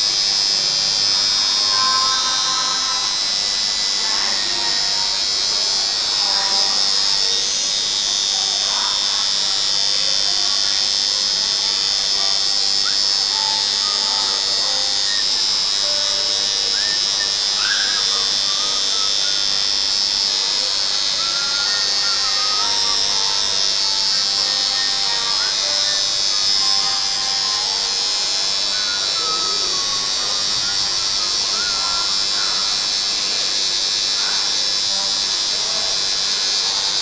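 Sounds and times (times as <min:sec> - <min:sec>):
faint music: 0:00.0 - 0:37.0
faint voices: 0:00.0 - 0:37.0
tattoo machine buzzing: 0:00.0 - 0:37.0.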